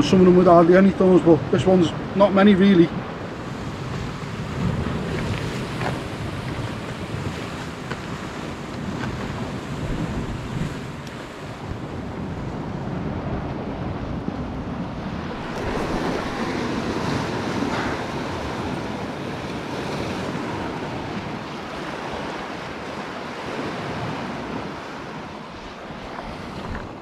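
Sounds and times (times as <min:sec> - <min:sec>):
wind buffeting microphone: 0:00.0 - 0:27.0
waves washing against rocks: 0:00.1 - 0:27.0.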